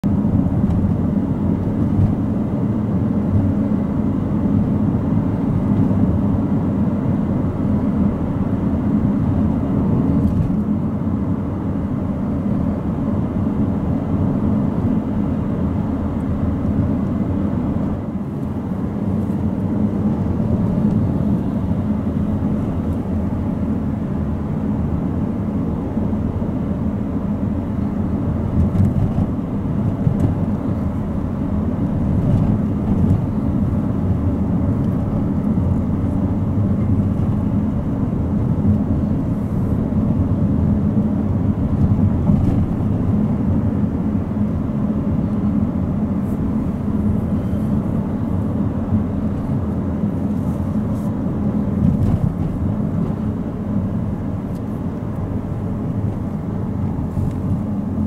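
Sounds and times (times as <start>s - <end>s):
car cabin road rumble: 0.0s - 58.0s.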